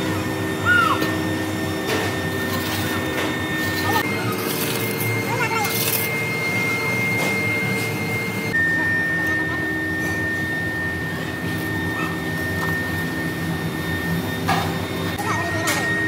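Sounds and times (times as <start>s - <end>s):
high steady whine: 0.0s - 16.0s.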